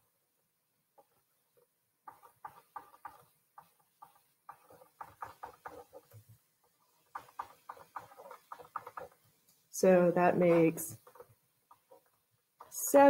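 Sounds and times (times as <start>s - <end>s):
stylus tapping and scraping on screen: 0.9s - 13.0s.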